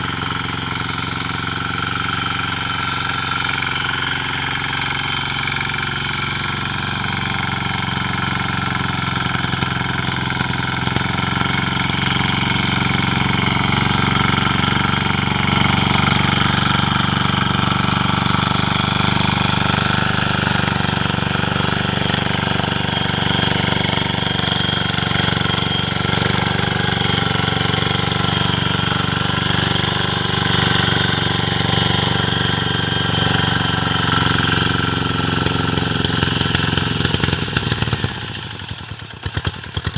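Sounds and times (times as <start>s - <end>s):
tiller engine running: 0.0s - 39.9s.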